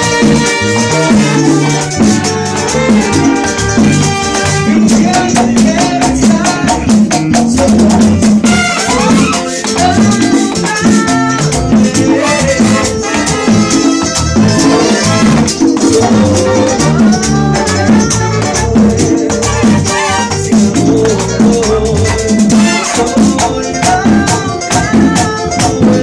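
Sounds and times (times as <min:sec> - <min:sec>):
live merengue band: 0:00.0 - 0:26.0.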